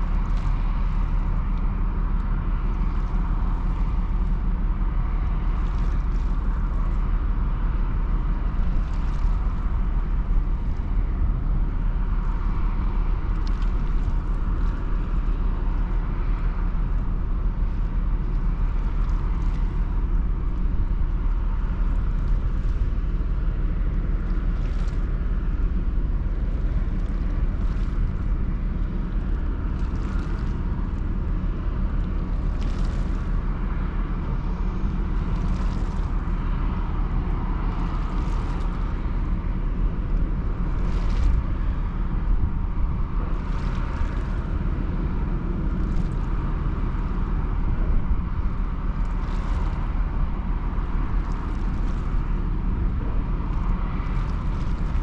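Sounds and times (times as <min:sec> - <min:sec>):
constant hum: 0:00.0 - 0:55.0
ferry engine rumble: 0:00.0 - 0:55.0.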